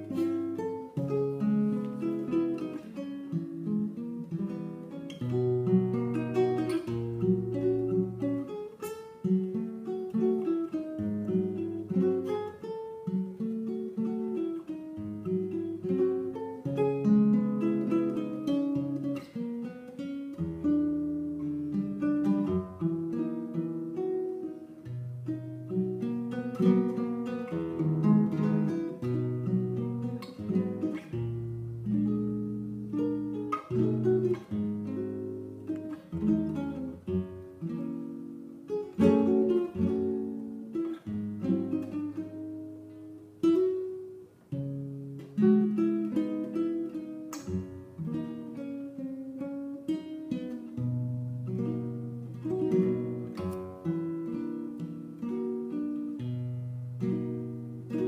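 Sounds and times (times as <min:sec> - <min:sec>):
classical guitar fingerpicking: 0:00.0 - 0:58.0.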